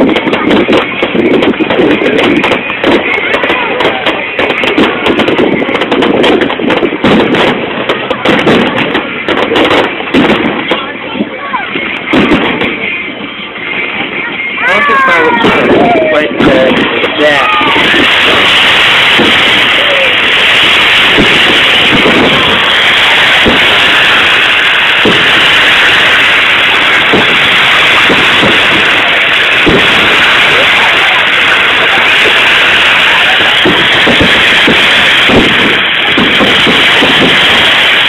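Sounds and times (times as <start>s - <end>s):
crowd voices: 0.0s - 38.0s
fireworks bangs and crackles: 0.0s - 38.0s
loud constant hiss: 0.0s - 38.0s.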